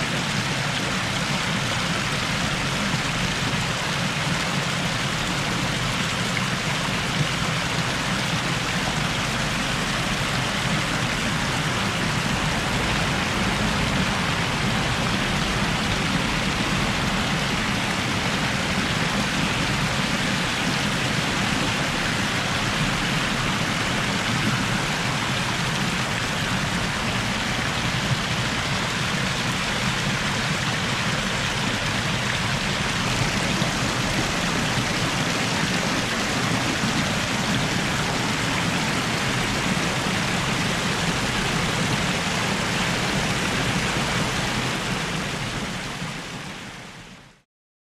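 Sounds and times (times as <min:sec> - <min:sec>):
fountain water pouring and splashing: 0:00.0 - 0:47.4.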